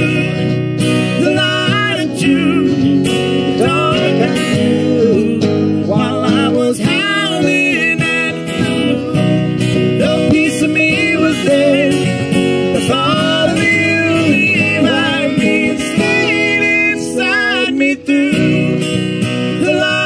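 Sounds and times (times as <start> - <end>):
acoustic guitars strummed: 0.0 - 20.0
man singing: 0.0 - 20.0.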